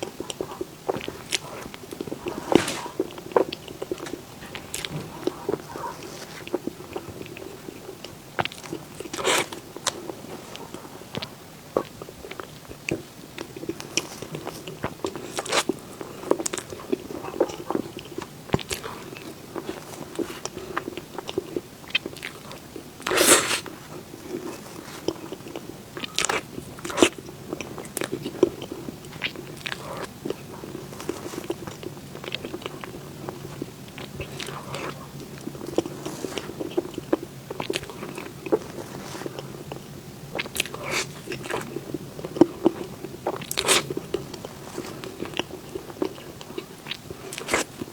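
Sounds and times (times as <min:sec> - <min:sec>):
close-miked chewing: 0:00.0 - 0:47.9.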